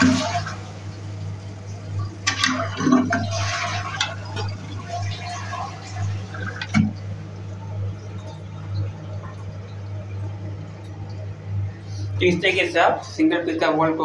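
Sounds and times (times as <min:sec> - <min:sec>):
fill valve refilling water: 0:00.0 - 0:13.0
water rushing from tank: 0:00.0 - 0:13.9.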